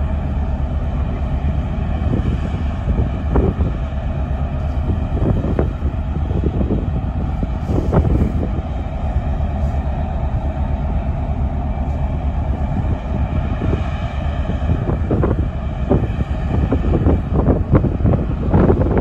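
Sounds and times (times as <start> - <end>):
ship engines rumbling: 0.0 - 19.0
wind buffeting microphone: 0.0 - 19.0.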